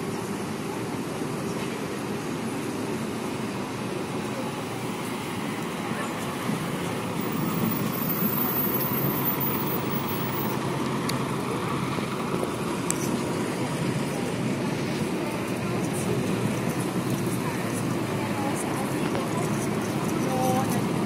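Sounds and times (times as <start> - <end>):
street traffic: 0.0 - 21.0
bus driving past: 0.2 - 21.0.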